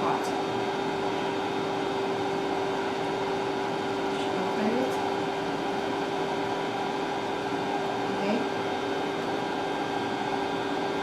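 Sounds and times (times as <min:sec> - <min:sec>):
machine whirring hum: 0:00.0 - 0:11.0.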